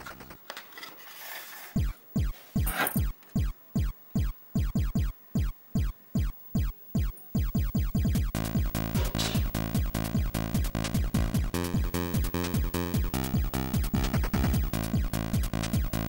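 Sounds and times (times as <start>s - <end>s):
electronic music kick-drum beat: 1.8s - 16.0s
sustained synth tones: 1.8s - 16.0s.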